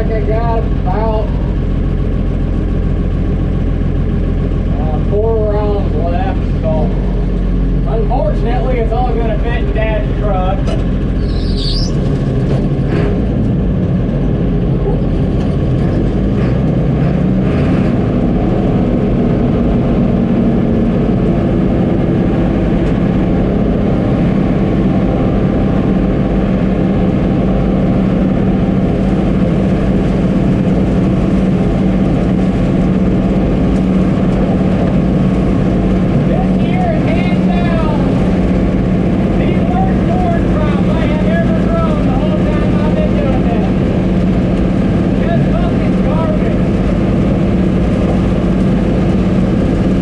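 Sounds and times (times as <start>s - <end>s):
combine harvester droning: 0.0s - 50.0s.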